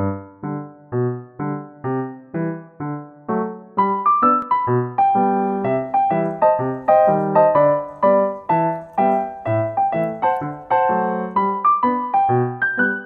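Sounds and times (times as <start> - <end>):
bouncy keyboard tune: 0.0 - 13.0.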